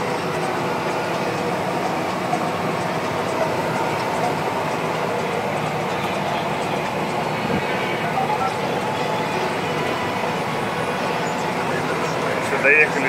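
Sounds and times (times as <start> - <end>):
tractor running under load: 0.0 - 13.0.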